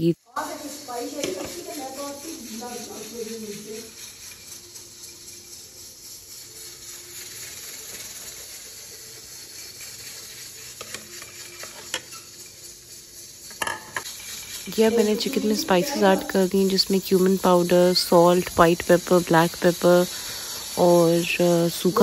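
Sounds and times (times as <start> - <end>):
steady low hiss: 0.0 - 22.0.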